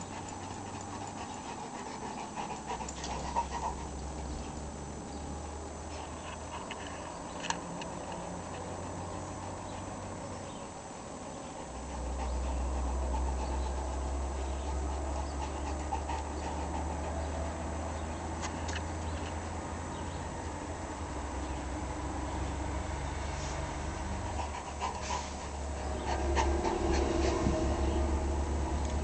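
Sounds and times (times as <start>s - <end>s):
puppy panting: 0.0s - 21.6s, 22.6s - 29.0s.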